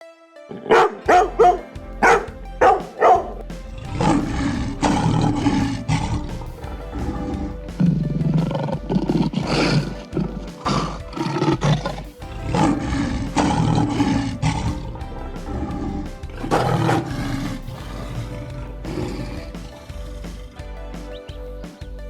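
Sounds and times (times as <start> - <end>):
background music: 0.0 - 22.0
big cat roaring: 1.2 - 20.5.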